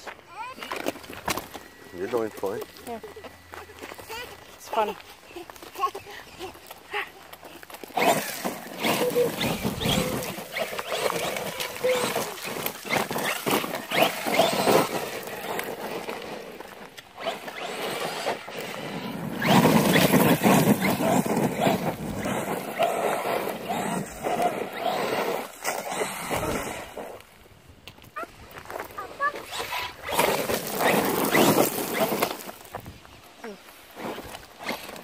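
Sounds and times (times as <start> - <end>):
tyres churning dirt: 0.0 - 35.0
rc truck motor whine: 0.4 - 6.8, 7.6 - 27.3, 28.6 - 32.7.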